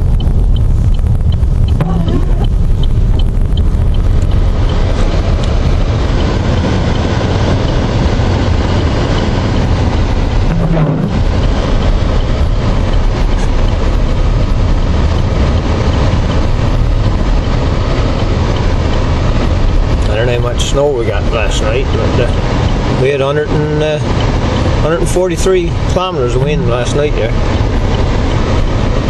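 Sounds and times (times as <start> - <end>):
vehicle road and engine noise: 0.0 - 29.0.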